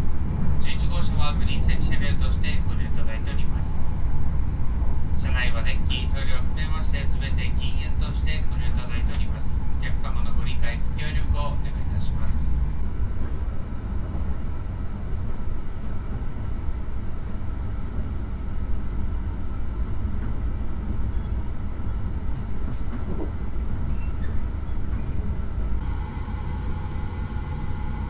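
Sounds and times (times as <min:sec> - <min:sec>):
hum: 0:00.0 - 0:28.0
train wheels rumbling on rails: 0:00.0 - 0:28.0.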